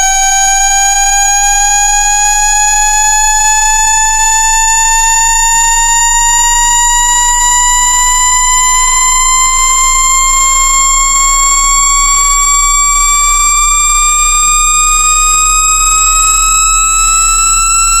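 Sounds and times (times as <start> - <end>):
buzzy test tone rising in pitch: 0.0 - 18.0
low hum: 0.2 - 18.0.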